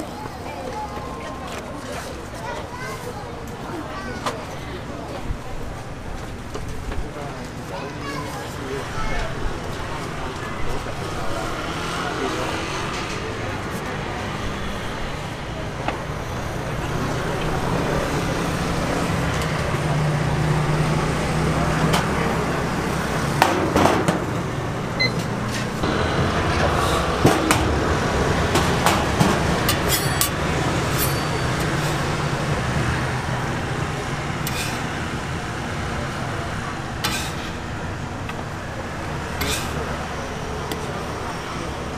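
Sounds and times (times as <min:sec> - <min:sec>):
low traffic hum: 0:00.0 - 0:41.9
street stall din: 0:00.0 - 0:41.9.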